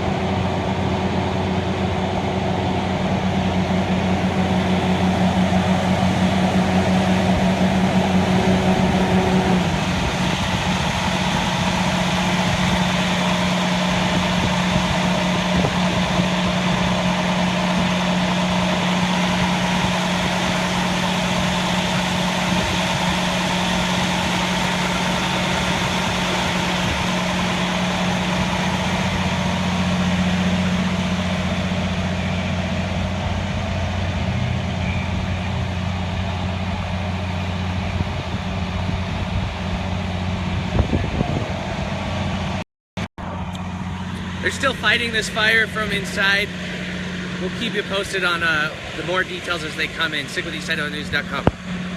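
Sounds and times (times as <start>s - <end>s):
broad wash of noise: 0.0s - 42.6s, 43.2s - 51.9s
fire engine motor humming: 0.0s - 51.9s.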